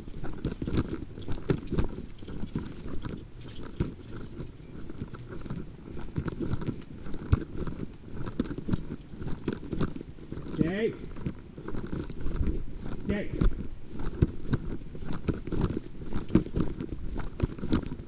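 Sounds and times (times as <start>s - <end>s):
footsteps: 0.0s - 18.0s.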